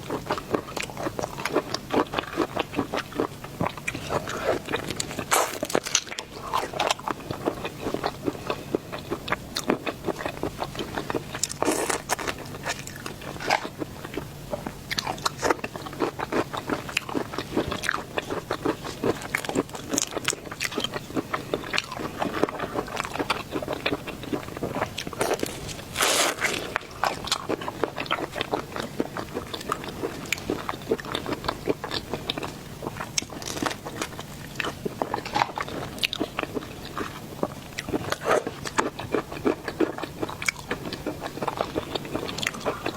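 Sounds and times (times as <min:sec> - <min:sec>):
person chewing seafood: 0:00.0 - 0:42.9.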